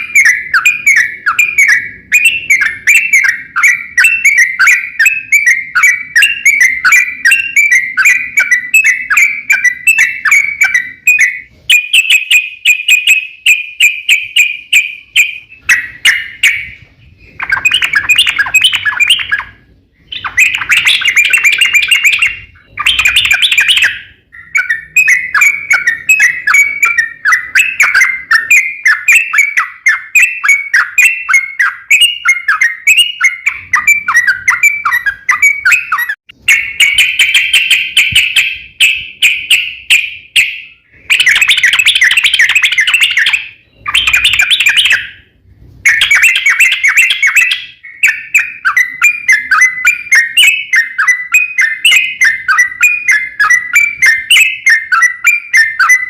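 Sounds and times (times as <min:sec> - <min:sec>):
bulbul chattering song: 0:00.0 - 0:56.0.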